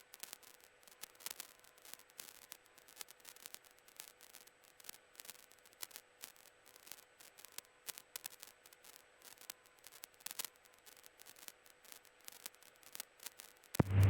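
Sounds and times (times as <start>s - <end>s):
radio static crackling: 0.2s - 14.0s.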